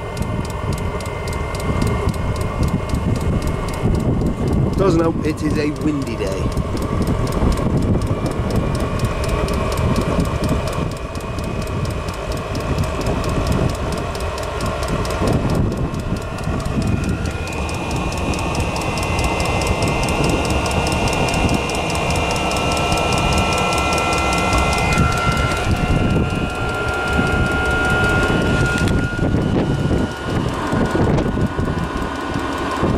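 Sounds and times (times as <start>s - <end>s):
blower fan whine: 0.0s - 32.9s
fast even ticking: 0.0s - 32.9s
heater combustion rumble: 0.0s - 32.9s
wind buffeting microphone: 0.0s - 32.9s.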